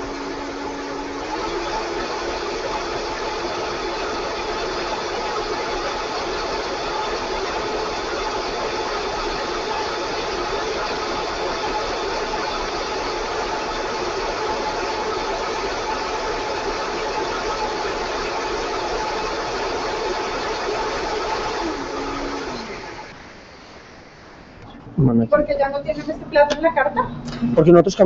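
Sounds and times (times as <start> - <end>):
blender motor running: 0.0 - 23.2.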